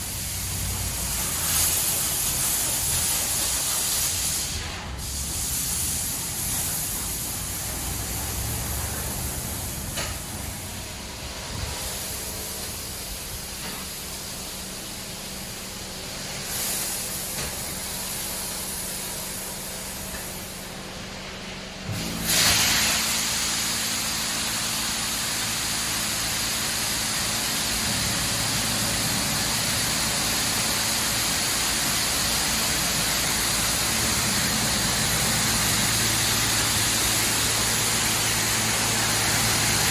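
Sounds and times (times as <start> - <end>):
car wash water spray hissing: 0.0 - 39.9.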